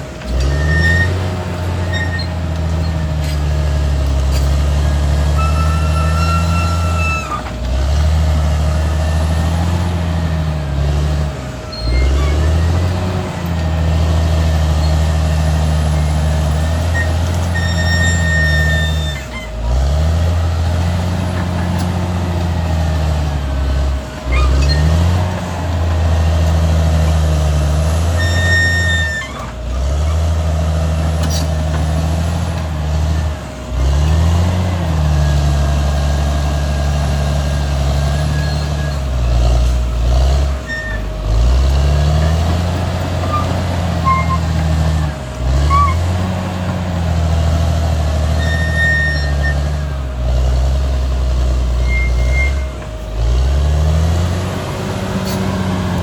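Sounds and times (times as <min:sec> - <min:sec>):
bulldozer diesel engine under load: 0:00.0 - 0:56.0.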